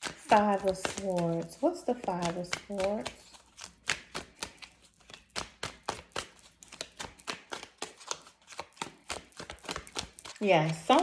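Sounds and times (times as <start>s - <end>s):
cards being shuffled by hand: 0.0s - 11.0s.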